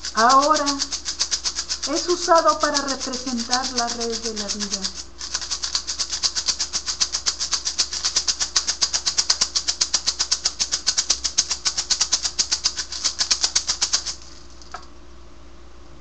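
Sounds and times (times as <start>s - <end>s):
hand rattle shaken: 0.0s - 14.9s.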